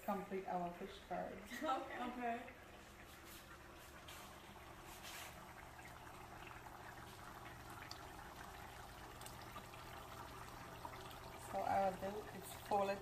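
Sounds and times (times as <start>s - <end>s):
low steady hum: 0.0s - 13.0s
pot bubbling and simmering: 0.0s - 13.0s.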